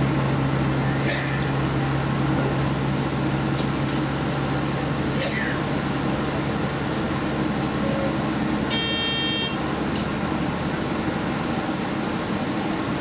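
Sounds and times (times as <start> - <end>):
train engine hum: 0.0 - 13.0.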